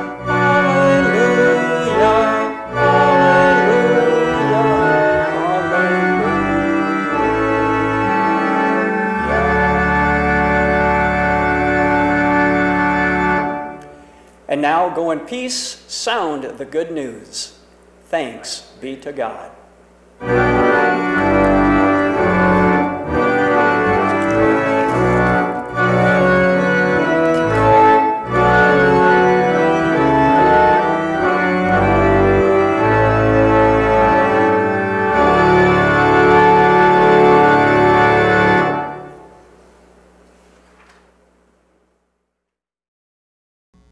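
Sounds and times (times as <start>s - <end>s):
organ playing held chords: 0.0s - 17.5s, 18.2s - 40.1s.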